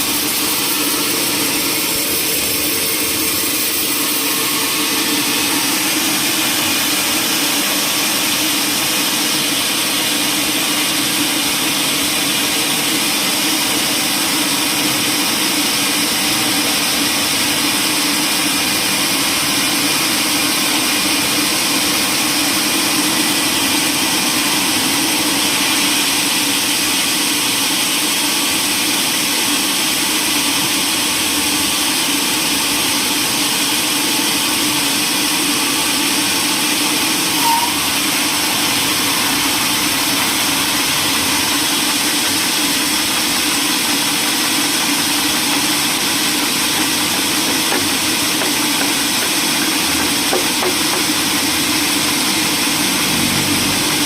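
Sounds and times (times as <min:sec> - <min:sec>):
machine drone with hiss: 0:00.0 - 0:54.0.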